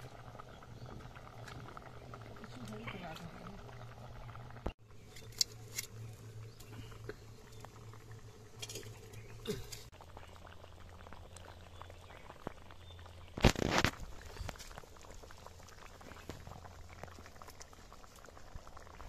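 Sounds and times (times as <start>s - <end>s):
curry bubbling: 0.0s - 19.0s
small crackles and taps: 0.8s - 3.4s, 4.6s - 19.0s.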